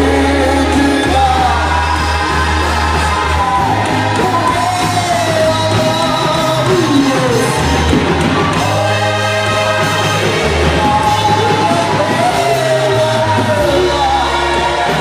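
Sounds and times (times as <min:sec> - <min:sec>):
sustained bass notes: 0:00.0 - 0:15.0.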